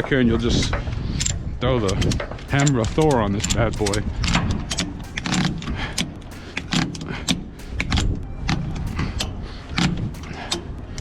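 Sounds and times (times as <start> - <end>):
metallic ratchet clicks and clanks: 0.0 - 11.0.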